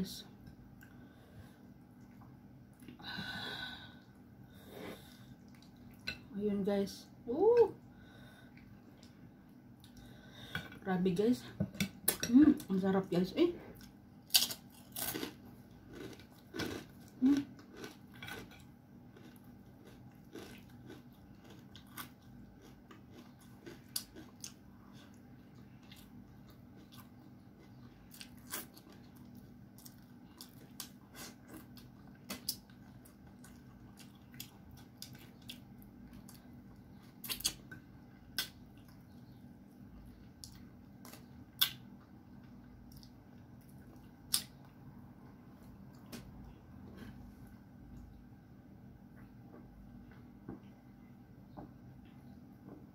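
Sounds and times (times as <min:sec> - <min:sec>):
faint steady hum: 0:00.0 - 0:52.9.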